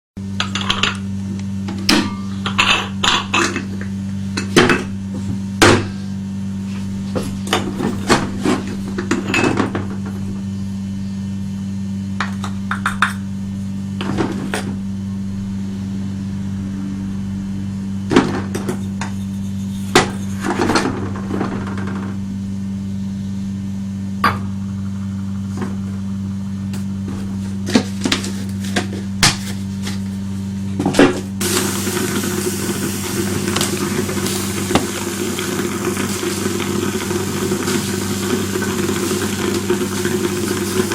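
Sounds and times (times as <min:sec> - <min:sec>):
coffee machine humming: 0:00.2 - 0:40.9.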